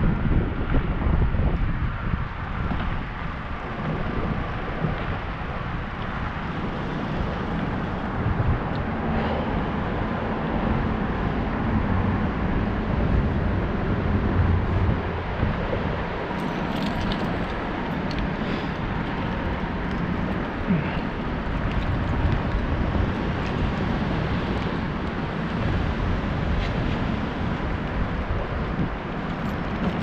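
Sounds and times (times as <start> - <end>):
wind rush on microphone: 0.0 - 30.0
tyres rolling on wet pavement: 1.9 - 30.0.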